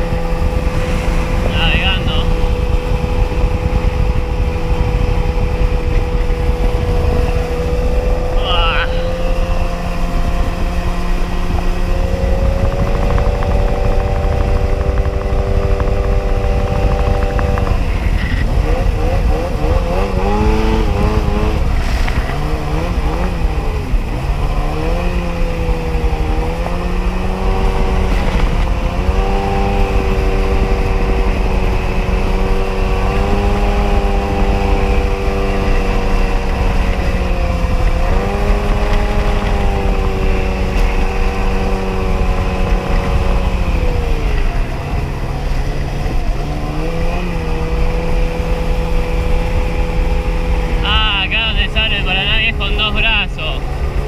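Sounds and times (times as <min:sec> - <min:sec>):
jet ski engine running: 0:00.0 - 0:54.0.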